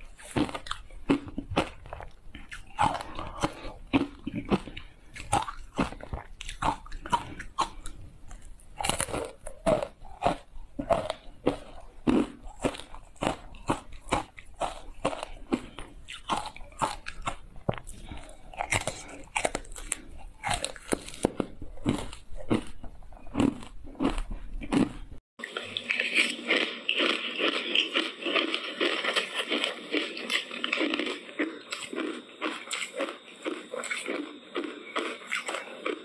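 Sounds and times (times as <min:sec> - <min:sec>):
ice cubes crunching while chewed: 0:00.0 - 0:36.0.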